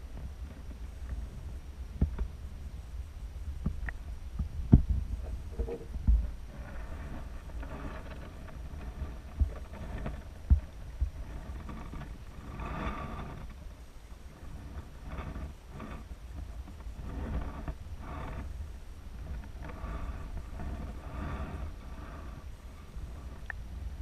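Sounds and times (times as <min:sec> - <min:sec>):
underwater rumble of water: 0:00.0 - 0:24.0.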